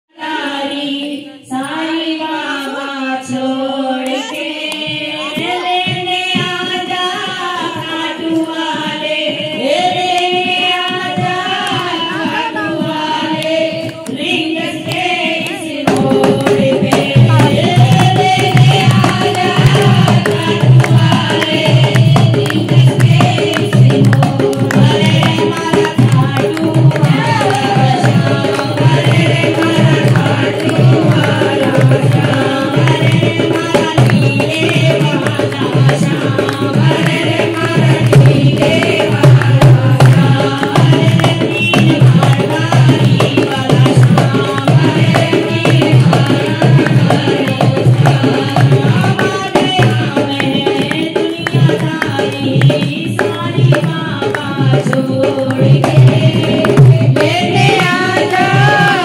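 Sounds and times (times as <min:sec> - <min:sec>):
woman singing devotional song: 0:00.1 - 0:59.0
hand drum beat: 0:04.0 - 0:59.0
hand clapping: 0:11.6 - 0:59.0.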